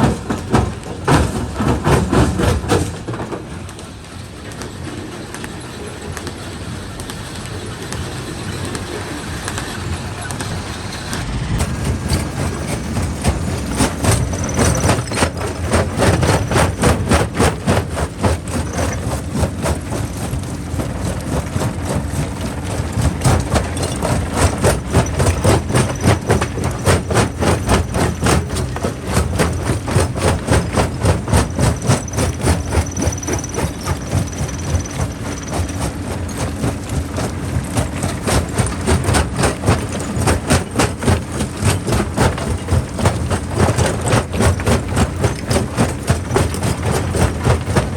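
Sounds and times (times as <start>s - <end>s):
rock crusher rumbling: 0.0s - 47.9s.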